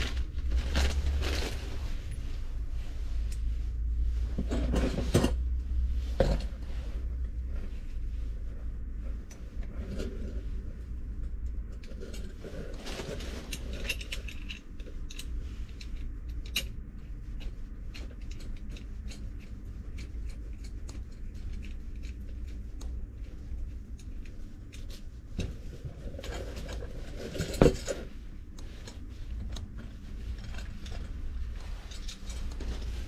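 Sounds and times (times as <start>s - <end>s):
tubing handling clicks and rustles: 0.0s - 3.6s, 4.2s - 33.0s
steady low hum: 0.0s - 33.0s.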